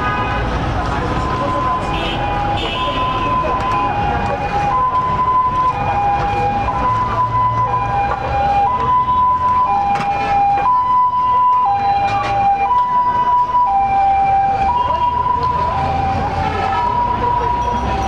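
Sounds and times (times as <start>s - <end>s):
low street hum: 0.0s - 18.0s
two-tone siren: 1.2s - 18.0s.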